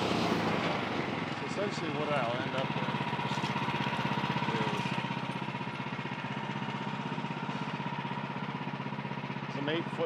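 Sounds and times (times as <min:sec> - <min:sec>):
small gas engine running: 0:00.0 - 0:10.0.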